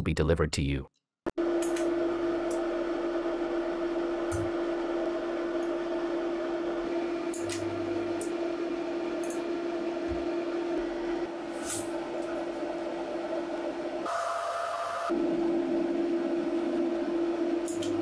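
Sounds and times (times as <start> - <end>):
electrical hum of spot welder: 1.4 - 18.0.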